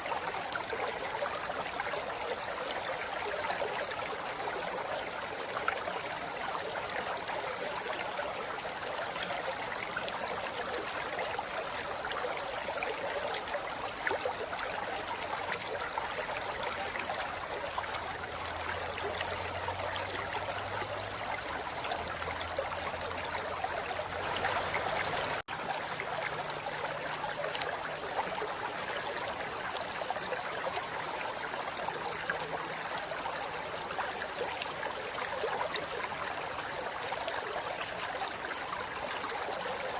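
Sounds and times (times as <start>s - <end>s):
river flowing over rocks: 0.1s - 39.9s.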